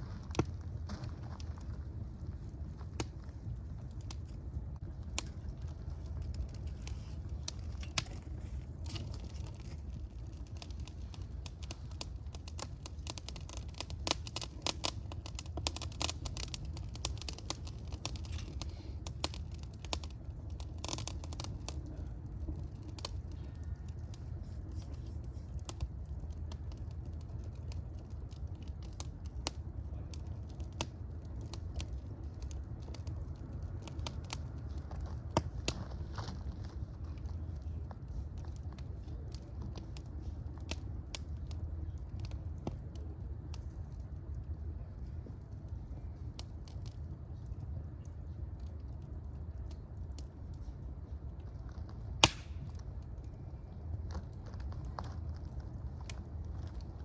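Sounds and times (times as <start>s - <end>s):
fire crackling and popping: 0.0s - 57.0s
low steady rumble: 0.0s - 57.0s.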